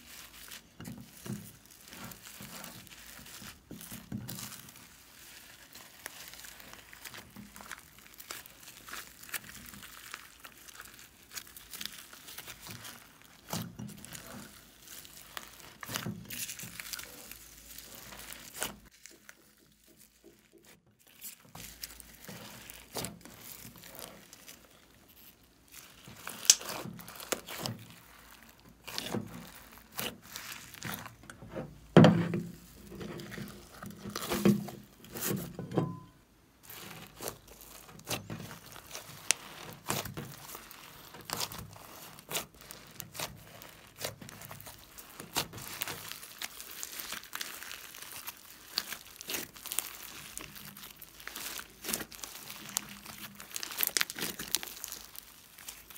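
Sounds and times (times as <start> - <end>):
slime squelching and crackling: 0.0 - 55.9.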